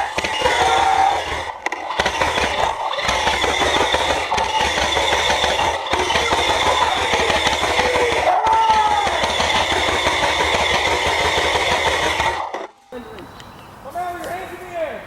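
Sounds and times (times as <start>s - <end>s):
rapid mechanical clattering: 0.0s - 12.7s.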